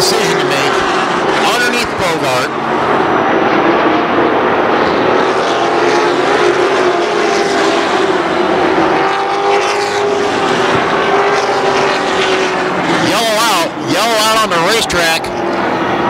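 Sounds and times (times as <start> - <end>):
race truck engines droning: 0.0 - 16.0.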